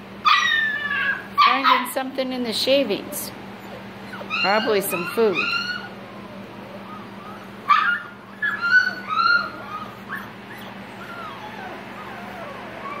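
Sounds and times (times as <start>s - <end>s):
puppies whining and yipping: 0.0s - 2.0s, 2.6s - 13.0s
steady low hum: 0.0s - 13.0s.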